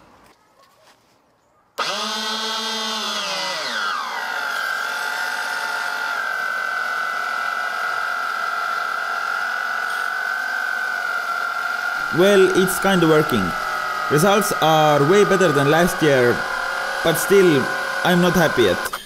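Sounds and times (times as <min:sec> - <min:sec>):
electric pumps whining: 0:01.8 - 0:19.0.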